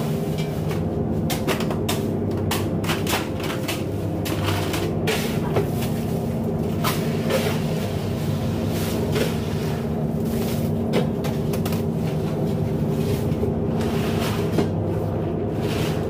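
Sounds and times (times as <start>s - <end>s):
boat engine humming: 0.0s - 16.0s
ice and crates scraping and clattering: 0.0s - 16.0s.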